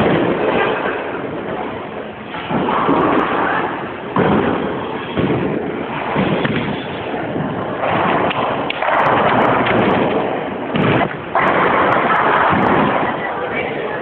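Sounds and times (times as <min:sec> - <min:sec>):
bowling pins clattering: 0:00.0 - 0:13.8
bowling balls rolling: 0:00.0 - 0:14.0.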